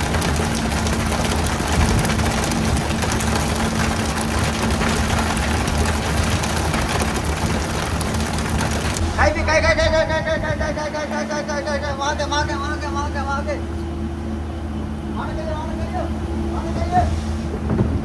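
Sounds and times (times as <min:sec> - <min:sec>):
boat engine humming: 0:00.0 - 0:18.0
loud constant hiss: 0:00.0 - 0:18.0.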